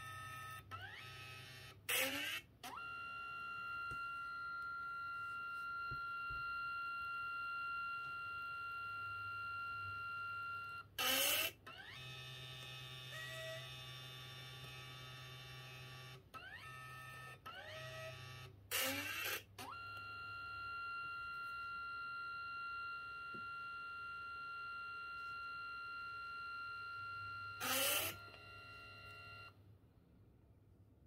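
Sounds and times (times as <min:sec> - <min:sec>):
printer motor whine: 0:00.0 - 0:29.6.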